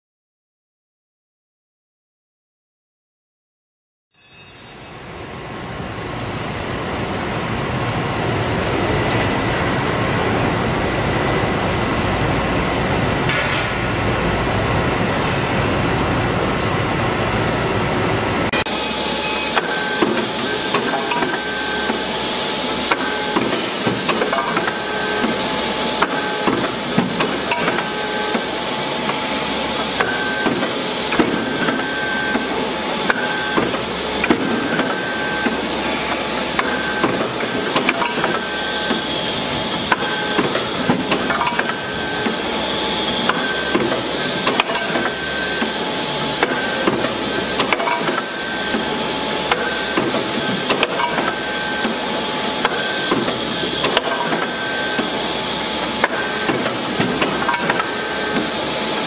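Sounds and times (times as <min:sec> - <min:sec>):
high whine: 0:04.2 - 0:59.0
steady machine noise: 0:04.4 - 0:59.0.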